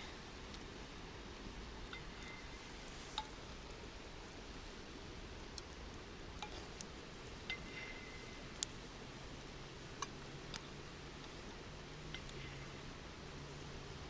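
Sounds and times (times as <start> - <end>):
campfire crackling: 0.0 - 14.0
low background noise: 0.0 - 14.0.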